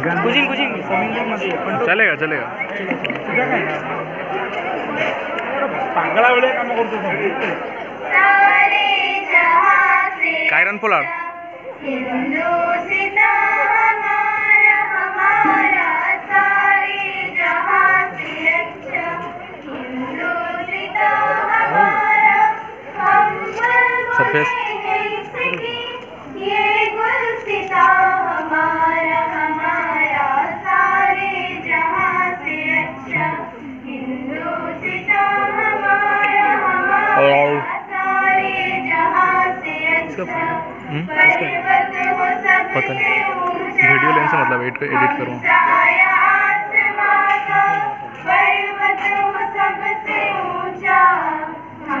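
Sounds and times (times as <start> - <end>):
children singing in unison: 8.0 - 52.0.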